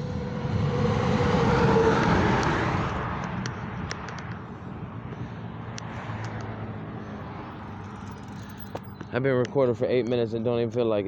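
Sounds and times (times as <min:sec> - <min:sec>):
vehicle passing on road: 0:00.0 - 0:10.0.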